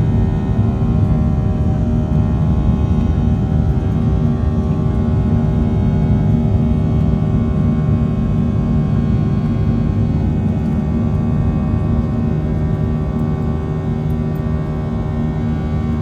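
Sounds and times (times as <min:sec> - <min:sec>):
jet engine cabin rumble: 0:00.0 - 0:16.0
steady humming tones: 0:00.0 - 0:16.0.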